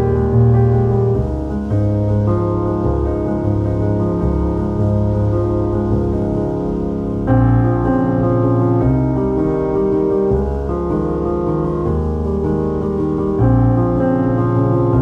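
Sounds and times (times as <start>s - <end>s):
piano chords background music: 0.0s - 15.0s.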